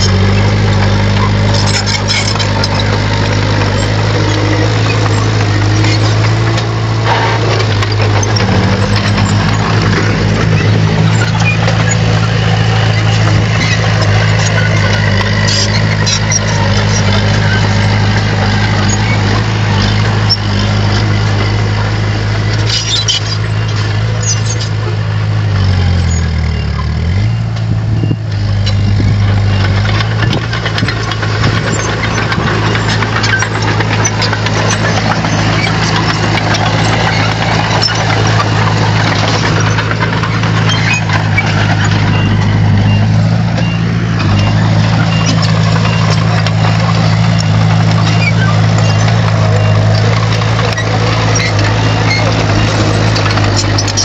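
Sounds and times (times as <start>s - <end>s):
clicks and clanks: 0.0s - 24.9s, 28.3s - 54.0s
bulldozer diesel engine running: 0.0s - 54.0s.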